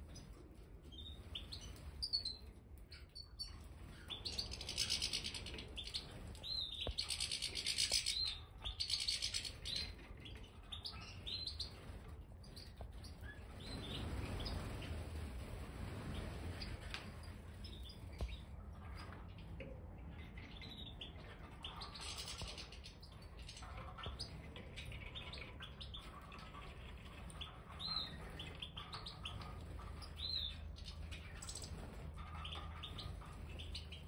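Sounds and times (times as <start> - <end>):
finches twittering and calling: 0.9 - 15.3, 20.1 - 34.0.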